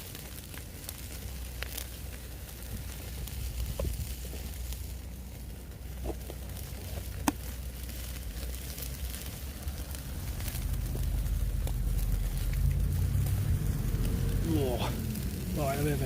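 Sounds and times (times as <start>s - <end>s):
campfire crackling and popping: 0.0s - 16.0s
low rumble: 0.0s - 16.0s.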